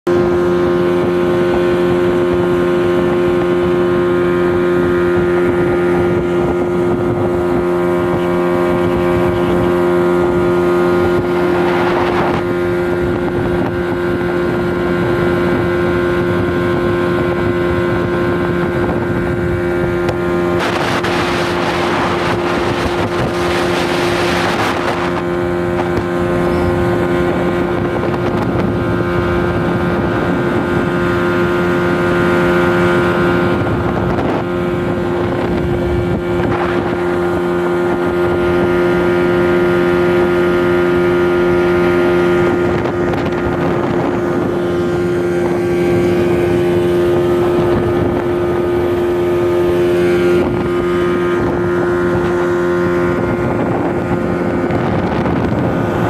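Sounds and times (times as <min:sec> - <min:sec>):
outboard motor droning: 0:00.0 - 0:56.0
water and wind rushing: 0:00.0 - 0:56.0.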